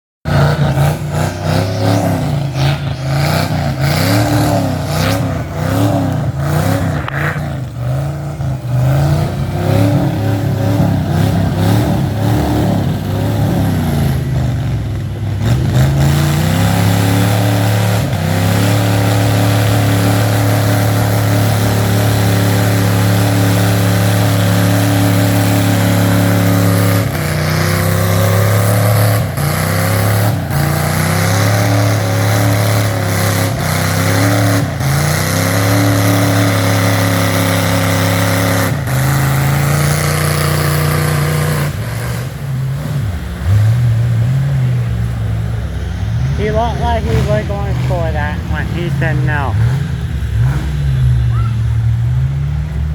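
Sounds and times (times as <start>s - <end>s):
off-road vehicle engine revving: 0.2s - 52.9s.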